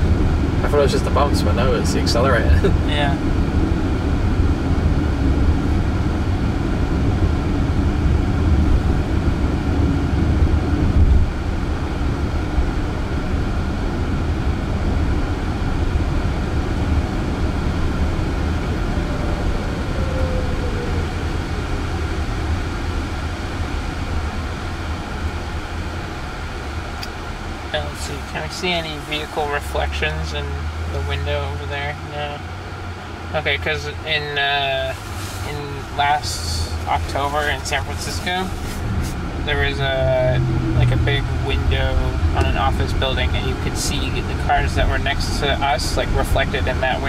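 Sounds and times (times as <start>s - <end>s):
road and tyre rumble in car: 0.0s - 47.0s.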